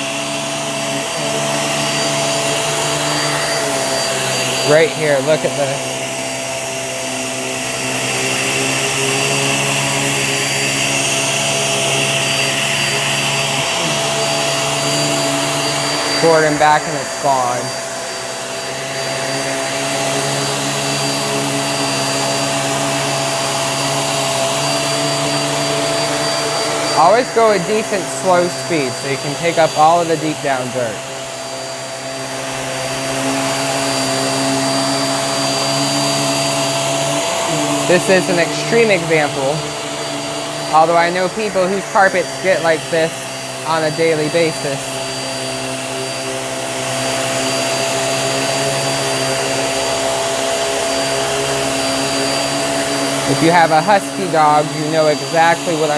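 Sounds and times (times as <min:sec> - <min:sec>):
vacuum cleaner motor hum: 0:00.0 - 0:55.9.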